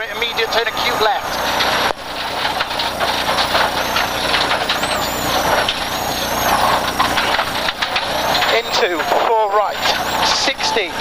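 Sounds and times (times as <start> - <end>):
gravel rattling: 0.0 - 11.0
rally car engine revving: 0.0 - 11.0.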